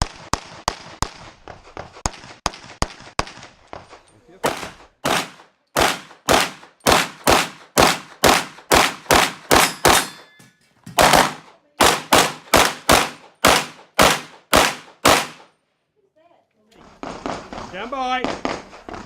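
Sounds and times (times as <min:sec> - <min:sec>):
rapid pistol shots: 0:00.0 - 0:03.8, 0:04.4 - 0:10.2, 0:11.0 - 0:15.6, 0:17.0 - 0:19.0.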